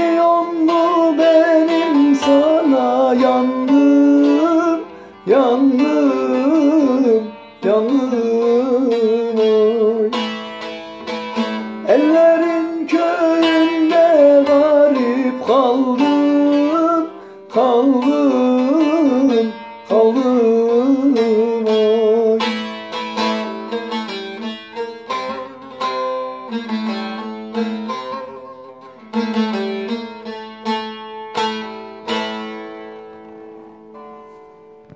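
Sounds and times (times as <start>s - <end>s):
ornamented melodic line: 0.0s - 34.9s
plucked string notes ringing: 0.0s - 34.9s.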